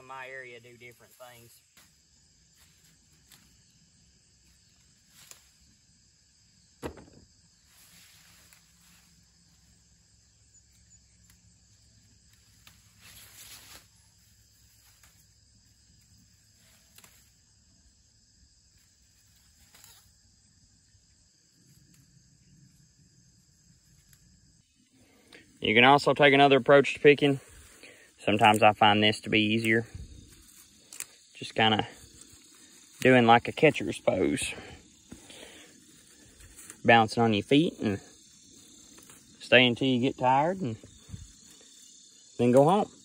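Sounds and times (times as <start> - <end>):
rustling of vines and leaves: 0.0 - 6.6, 7.3 - 43.0
insects chirring: 0.0 - 43.0.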